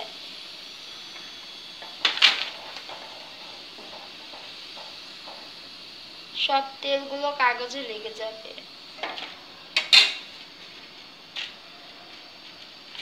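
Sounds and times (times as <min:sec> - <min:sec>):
fries sizzling in hot oil: 0:00.0 - 0:13.0.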